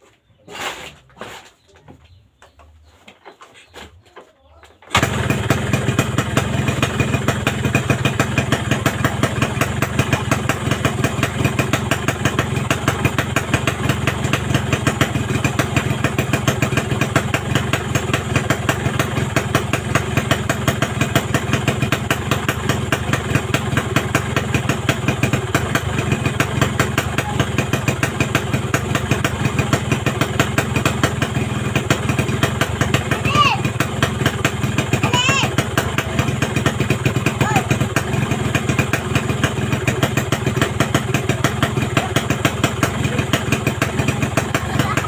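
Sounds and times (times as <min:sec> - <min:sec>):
motorcycle engine idling: 0:04.6 - 0:45.0.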